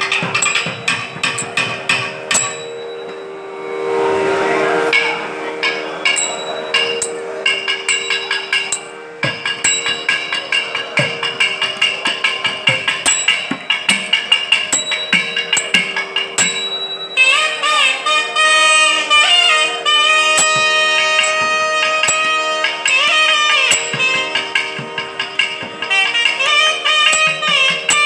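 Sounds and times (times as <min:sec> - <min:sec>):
drum strokes: 0:00.0 - 0:03.2, 0:04.9 - 0:28.0
hand cymbals striking: 0:00.0 - 0:28.0
steady drone: 0:00.0 - 0:28.0.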